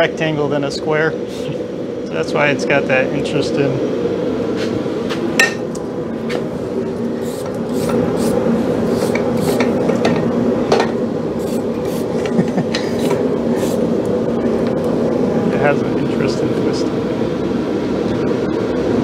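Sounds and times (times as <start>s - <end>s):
steady rushing roar: 0.0s - 19.0s.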